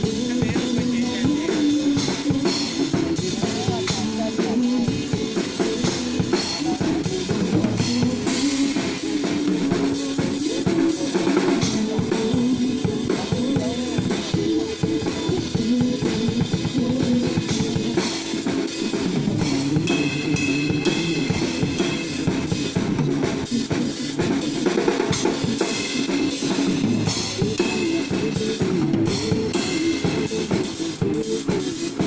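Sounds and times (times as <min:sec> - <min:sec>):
drum kit beat: 0:00.0 - 0:32.0
guitar: 0:00.0 - 0:32.0
pop song: 0:00.0 - 0:32.0.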